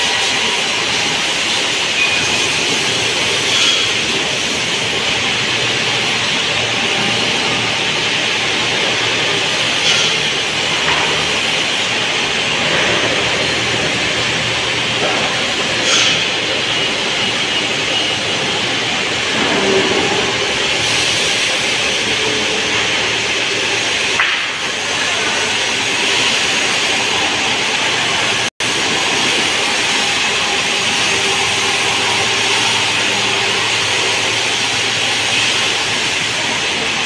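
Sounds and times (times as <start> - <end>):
sawmill machinery din: 0.0 - 37.0.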